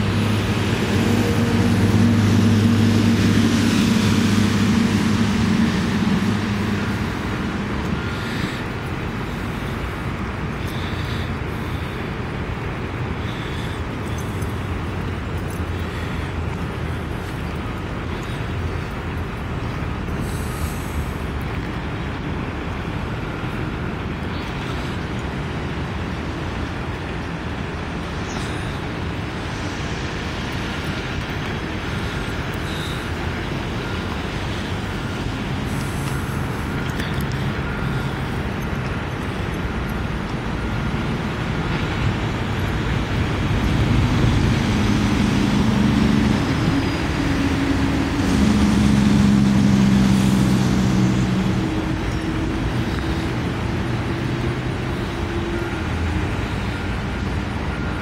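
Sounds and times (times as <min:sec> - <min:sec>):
engine humming: 0:00.0 - 0:58.0
low outdoor rumble: 0:00.0 - 0:58.0.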